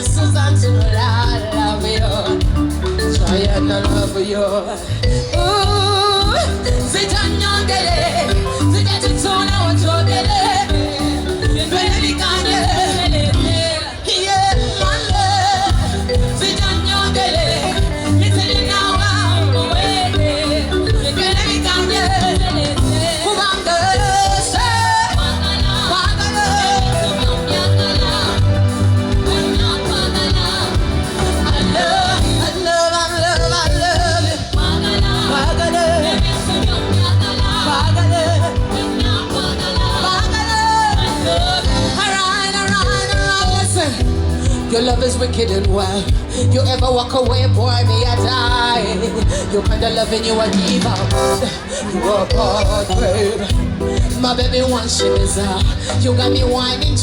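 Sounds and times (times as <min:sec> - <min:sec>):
band playing dance music: 0:00.0 - 0:57.0
woman singing: 0:00.0 - 0:57.0.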